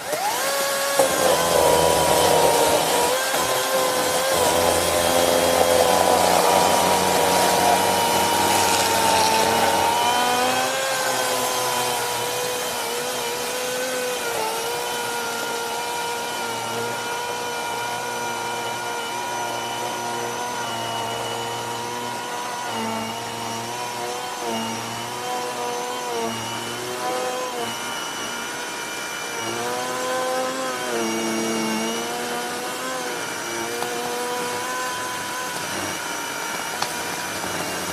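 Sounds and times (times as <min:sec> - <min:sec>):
chain sawing wood: 0:00.0 - 0:37.9
electric chainsaw motor whine: 0:00.0 - 0:37.9.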